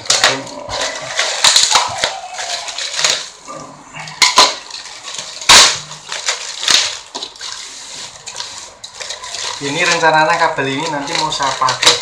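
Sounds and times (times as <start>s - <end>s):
plastic bag tearing and crumpling: 0.0s - 12.0s.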